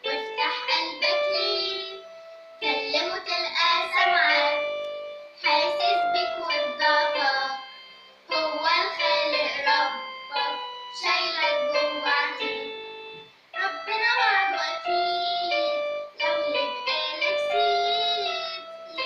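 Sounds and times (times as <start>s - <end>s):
girl singing: 0.0s - 19.0s
instrumental accompaniment: 0.0s - 19.0s.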